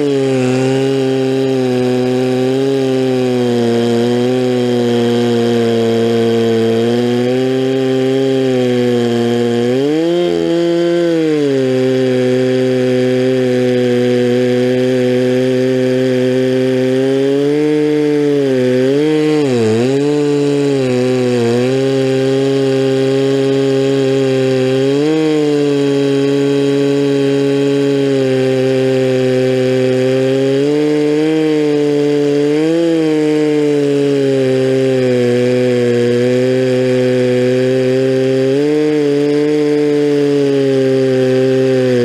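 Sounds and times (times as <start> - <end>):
chainsaw cutting log: 0.0 - 42.0.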